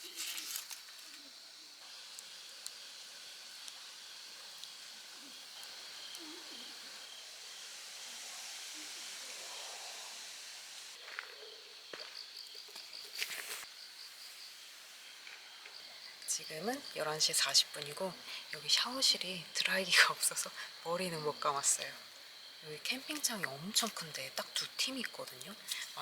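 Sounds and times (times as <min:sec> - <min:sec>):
crickets chirping: 0:00.0 - 0:26.0
faint hiss: 0:00.0 - 0:26.0.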